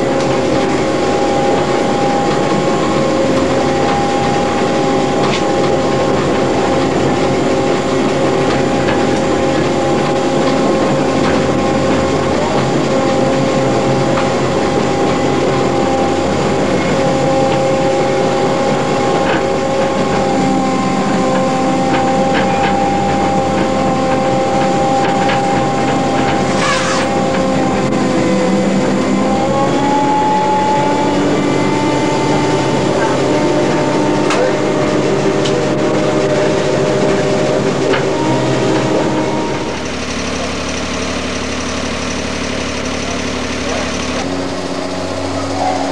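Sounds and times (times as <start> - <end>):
tram drive hum: 0.0 - 45.9
whining motor tones: 0.0 - 45.9.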